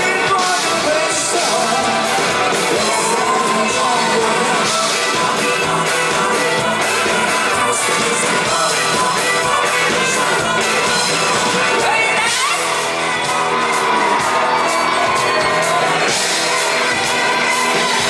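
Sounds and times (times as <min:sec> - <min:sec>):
live rock band playing: 0:00.0 - 0:18.0
steady drum beat: 0:00.0 - 0:18.0.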